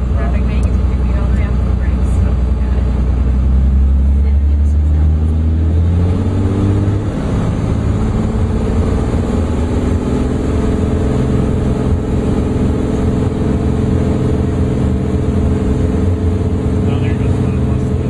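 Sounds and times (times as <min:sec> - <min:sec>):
aircraft engine at high power: 0:00.0 - 0:18.0.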